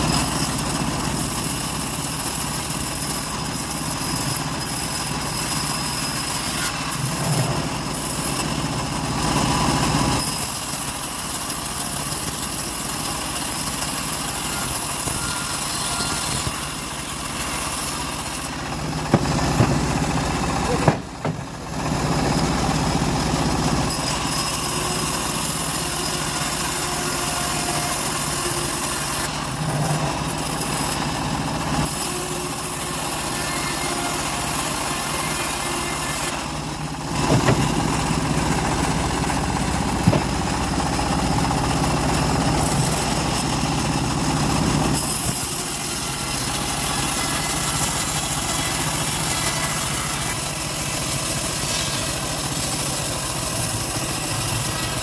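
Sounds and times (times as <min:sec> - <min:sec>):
bandsaw mill engine running: 0:00.0 - 0:55.0.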